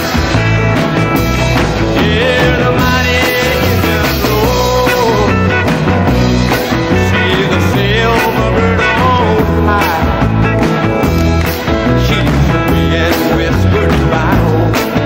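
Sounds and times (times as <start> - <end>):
rockabilly band music: 0.0 - 15.0.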